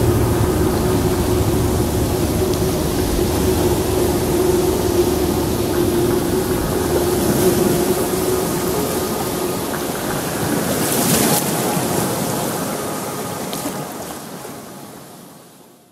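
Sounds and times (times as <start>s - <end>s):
steady low tone: 0.0s - 14.4s
water rushing over rocks: 0.0s - 15.0s.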